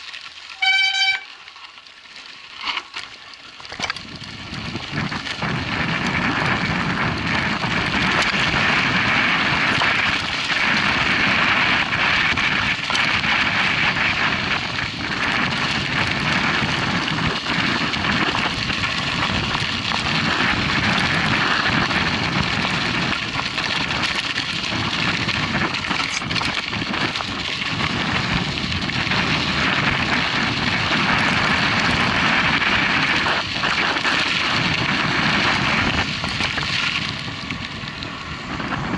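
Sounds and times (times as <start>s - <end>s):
bike tyres crunching on dirt: 0.0s - 38.9s
wind rushing over microphone: 3.8s - 38.9s.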